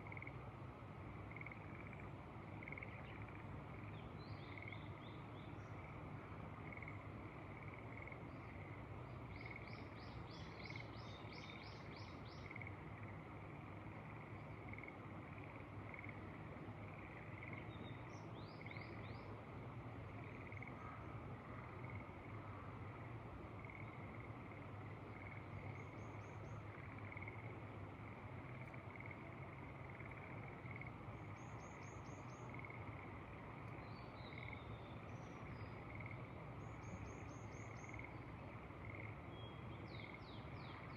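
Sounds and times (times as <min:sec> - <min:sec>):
frogs calling: 0:00.0 - 0:00.4, 0:01.2 - 0:19.3, 0:20.1 - 0:40.9.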